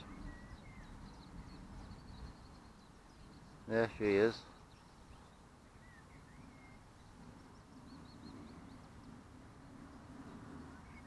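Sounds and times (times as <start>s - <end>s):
faint birdsong chirps: 0.0s - 11.0s.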